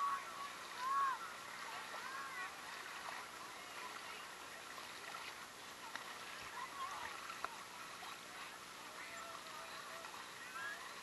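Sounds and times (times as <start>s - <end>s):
creek water rushing: 0.0s - 11.0s
feet wading with splashes: 0.0s - 11.0s.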